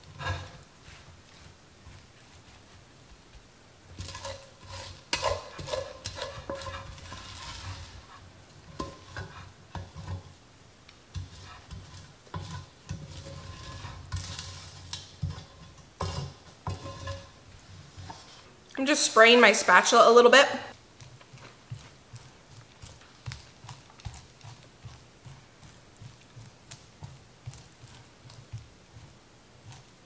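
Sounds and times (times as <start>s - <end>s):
wooden spatula scraping a pot: 0.0s - 3.0s, 3.9s - 10.4s, 11.1s - 19.0s, 20.7s - 30.0s.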